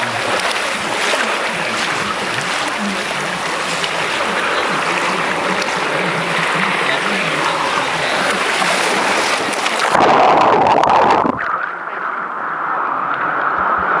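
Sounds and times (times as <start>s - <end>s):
water rushing down a slide: 0.0s - 14.0s.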